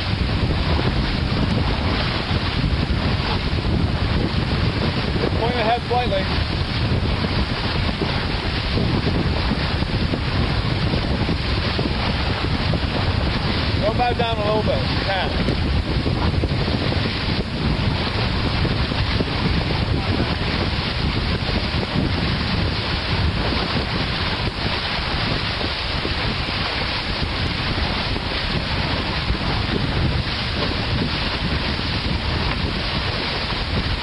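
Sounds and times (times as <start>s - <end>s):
water rushing and splashing: 0.0s - 34.0s
wind buffeting microphone: 0.0s - 34.0s.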